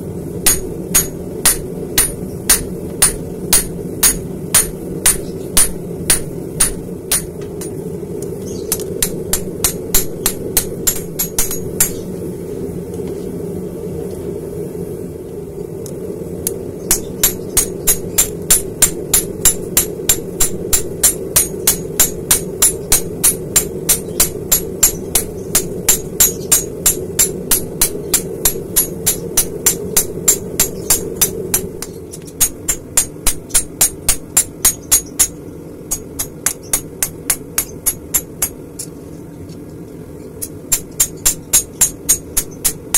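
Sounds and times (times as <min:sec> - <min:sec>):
low forge hum: 0:00.0 - 0:42.9
hammer striking metal on anvil: 0:00.4 - 0:07.8, 0:08.7 - 0:12.0, 0:16.9 - 0:38.6, 0:40.4 - 0:42.9.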